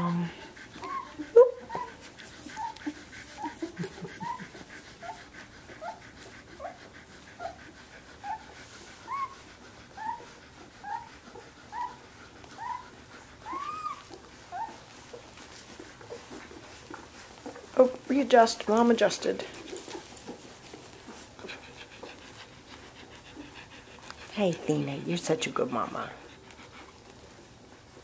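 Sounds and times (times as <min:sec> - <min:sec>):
puppy whimpering: 0:00.0 - 0:07.6, 0:08.2 - 0:27.4.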